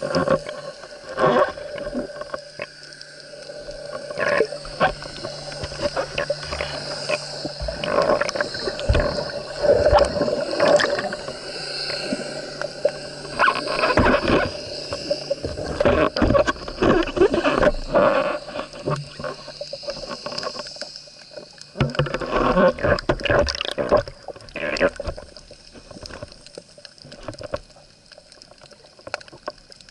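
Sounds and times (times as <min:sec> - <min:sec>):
underwater gurgling: 0:00.0 - 0:29.9.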